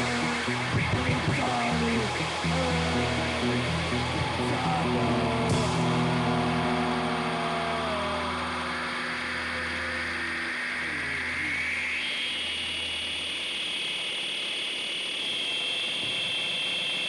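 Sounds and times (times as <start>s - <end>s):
electric bass and guitar ringing: 0.0s - 16.6s
high feedback whine: 0.0s - 17.0s.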